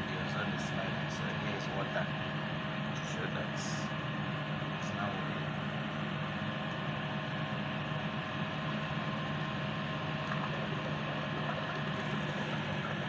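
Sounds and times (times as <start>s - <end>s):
ozone generator humming and hissing: 0.0s - 13.0s.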